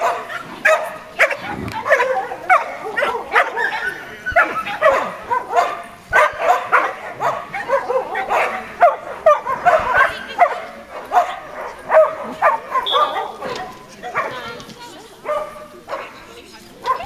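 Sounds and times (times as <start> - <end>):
dog barking in high-pitched yips: 0.0 - 14.4.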